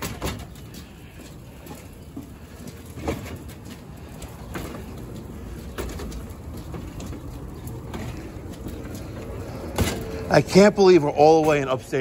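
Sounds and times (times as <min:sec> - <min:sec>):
dolly rolling over concrete: 0:00.0 - 0:12.0
rattles and clicks: 0:00.0 - 0:12.0.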